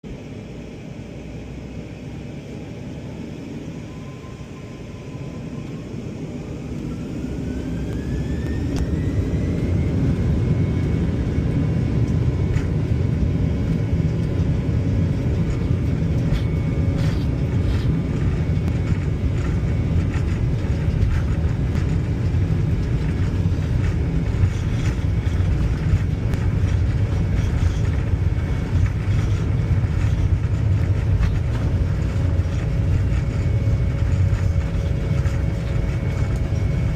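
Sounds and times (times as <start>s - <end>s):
jet engines spooling up: 2.2s - 36.9s.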